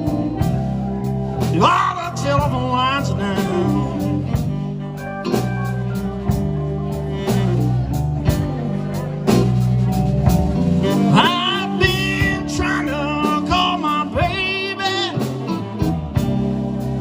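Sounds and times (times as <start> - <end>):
bass: 0.0 - 17.0
drums steady beat: 0.0 - 17.0
electric guitar fills: 0.0 - 17.0.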